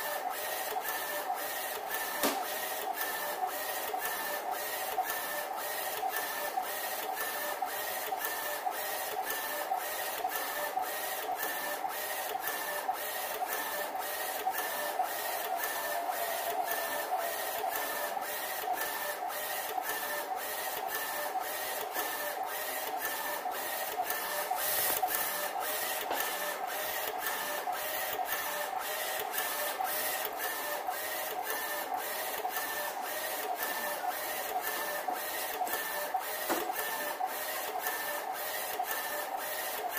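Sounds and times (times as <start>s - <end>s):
printer carriage motor whine: 0.0s - 39.9s
regular printer clicks: 0.0s - 39.9s.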